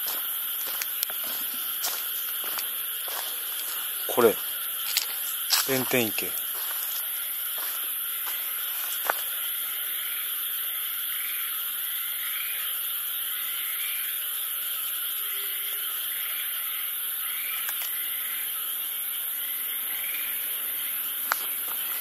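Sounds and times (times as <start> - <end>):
insect chirping: 0.0 - 22.0
insects buzzing: 0.0 - 22.0.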